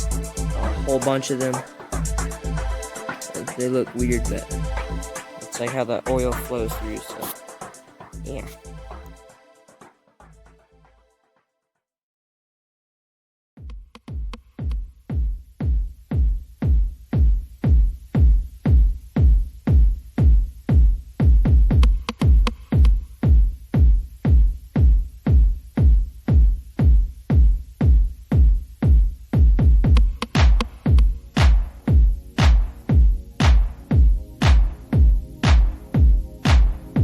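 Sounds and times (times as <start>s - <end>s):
electronic music with heavy kick drum: 0.0s - 11.0s, 13.6s - 37.0s.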